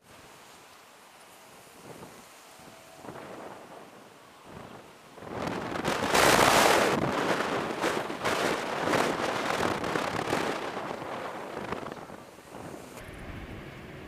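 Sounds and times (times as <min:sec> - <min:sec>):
wind rushing through trees: 0:00.0 - 0:14.0
wind buffeting microphone: 0:01.5 - 0:14.0.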